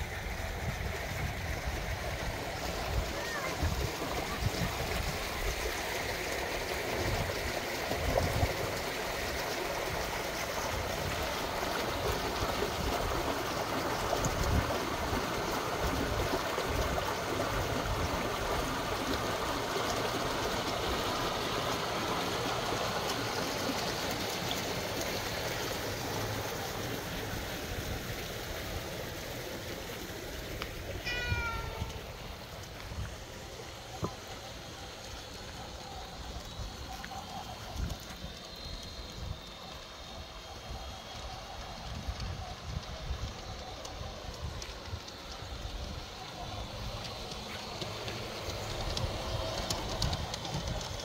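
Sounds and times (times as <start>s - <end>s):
fountain splashing gurgling water: 0.0s - 51.0s.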